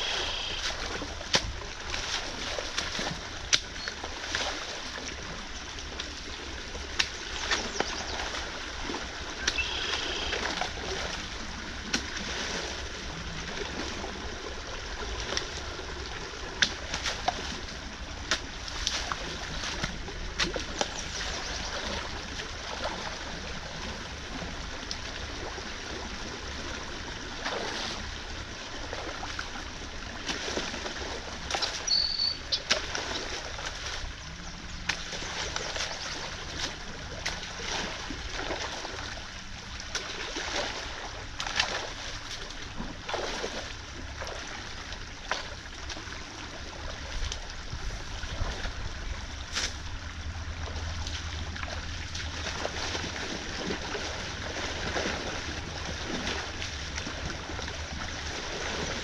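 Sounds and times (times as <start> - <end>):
creek water rushing and splashing: 0.0 - 59.0.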